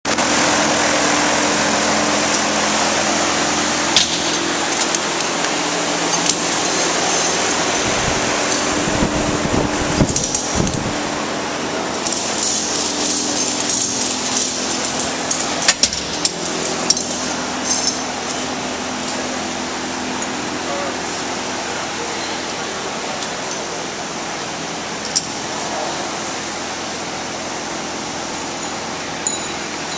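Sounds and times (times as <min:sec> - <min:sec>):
cooling fan humming: 0:00.1 - 0:29.9.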